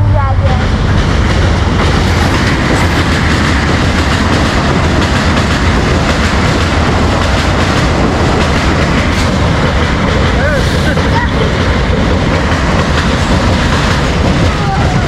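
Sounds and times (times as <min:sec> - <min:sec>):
train rumbling over bridge: 0:00.0 - 0:15.0.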